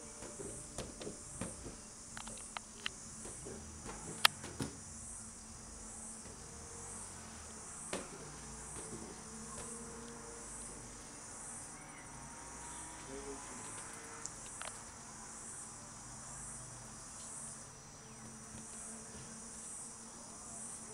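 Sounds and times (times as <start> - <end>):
insect chorus buzzing: 0.0 - 20.9.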